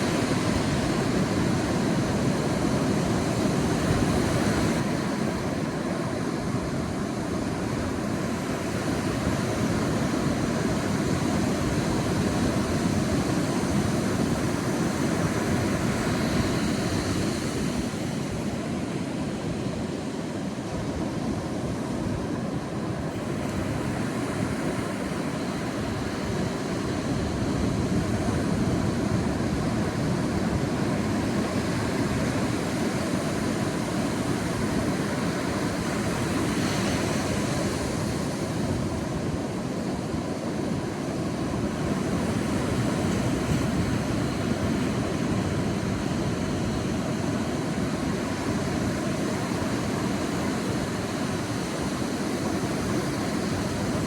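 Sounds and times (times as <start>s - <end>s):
sea waves on beach: 0.0s - 54.0s.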